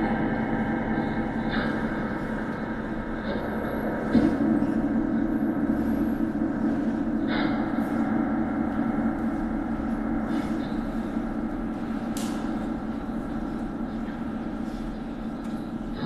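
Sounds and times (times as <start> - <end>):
steady droning hum: 0.0 - 16.0.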